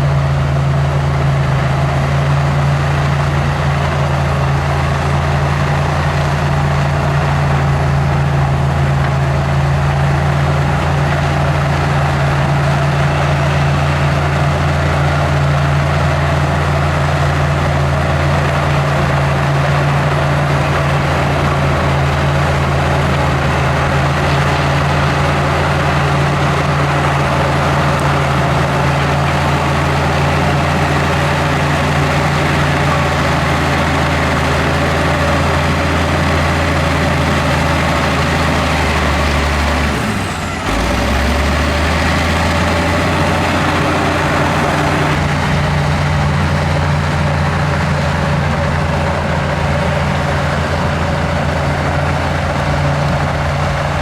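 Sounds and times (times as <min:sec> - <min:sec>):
diesel engine of earthmover: 0:00.0 - 0:54.0.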